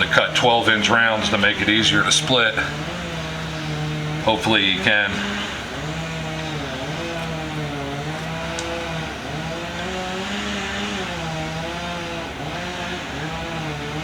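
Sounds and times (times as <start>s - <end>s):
chainsaw throttling up and down: 0.0s - 14.0s.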